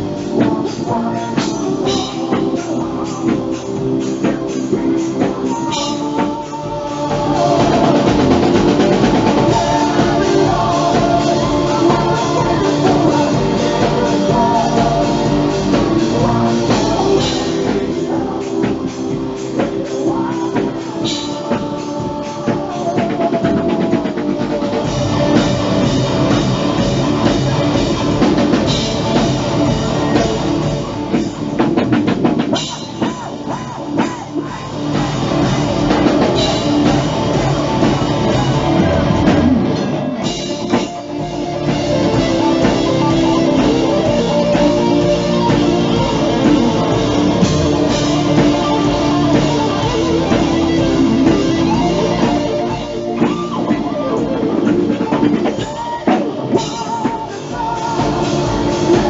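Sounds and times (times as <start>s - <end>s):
bass: 0.0s - 59.0s
drum kit: 0.0s - 59.0s
electric guitar lead: 0.0s - 59.0s.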